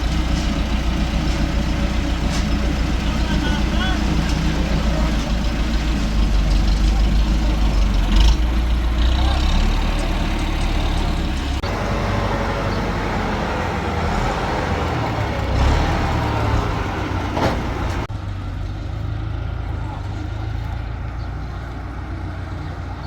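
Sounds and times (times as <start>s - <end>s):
heavy engine running: 0.0s - 23.0s.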